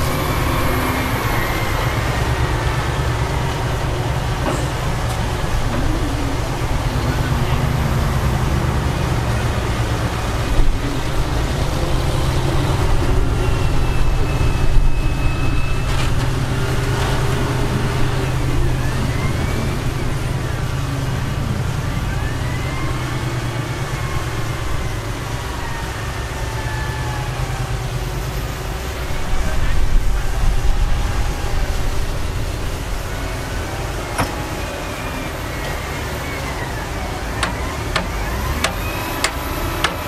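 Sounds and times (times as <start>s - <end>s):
faint high squealing tones: 0.0s - 40.0s
heavy diesel engine rumbling: 0.0s - 40.0s.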